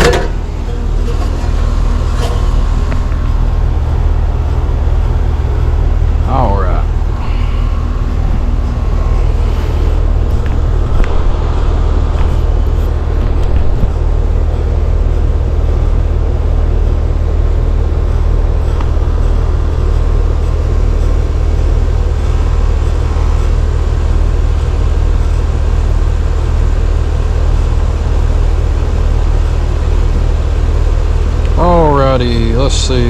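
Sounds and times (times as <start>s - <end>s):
air conditioner unit droning: 0.0s - 33.0s.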